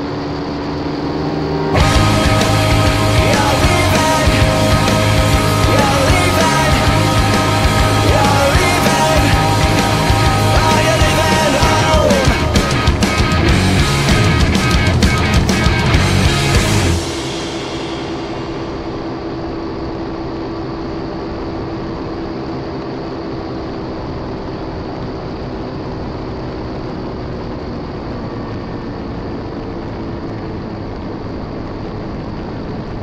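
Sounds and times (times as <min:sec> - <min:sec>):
small aircraft engine drone: 0:00.0 - 0:33.0
wind rush: 0:00.0 - 0:33.0.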